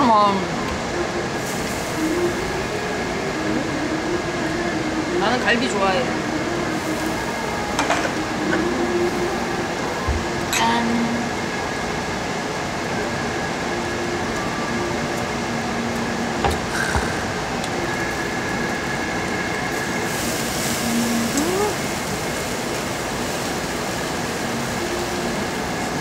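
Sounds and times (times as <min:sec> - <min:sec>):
extraction hood running: 0:00.0 - 0:26.0
ribs sizzling on a grill: 0:01.4 - 0:10.5, 0:12.8 - 0:26.0.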